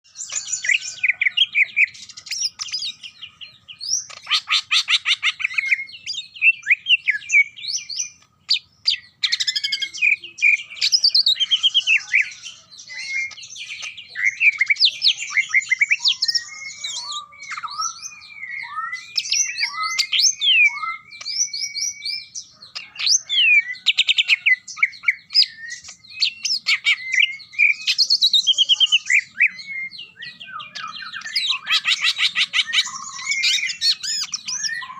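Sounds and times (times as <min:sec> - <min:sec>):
bird singing: 0:00.0 - 0:34.9.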